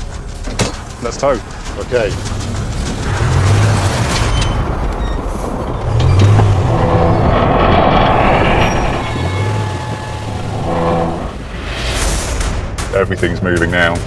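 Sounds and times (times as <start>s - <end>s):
rail and wheel noise: 0.0s - 14.0s
deep low booms: 0.9s - 14.0s.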